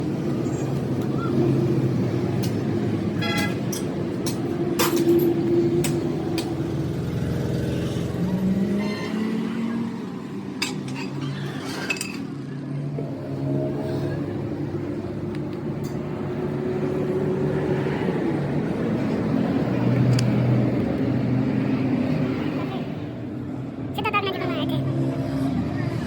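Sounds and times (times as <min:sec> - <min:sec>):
motor vehicles running: 0:00.0 - 0:26.0.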